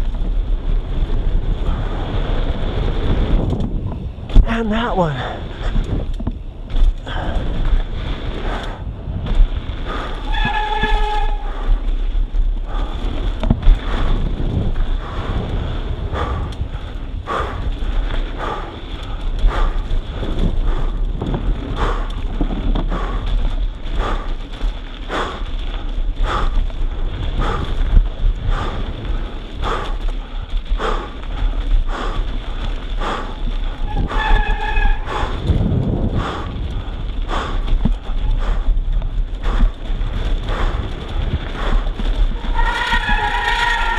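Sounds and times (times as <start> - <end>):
bike rattles and knocks: 0.0 - 43.9
tyres on dirt: 0.0 - 43.9
wind buffeting microphone: 0.0 - 43.9.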